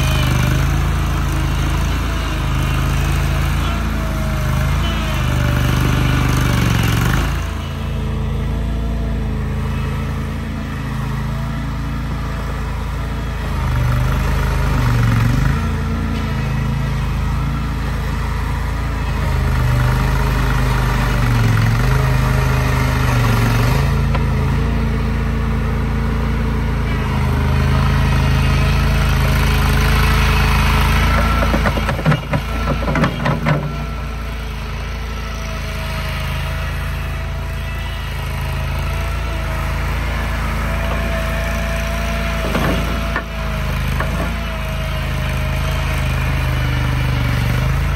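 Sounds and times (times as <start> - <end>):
engine running under load: 0.0 - 47.9.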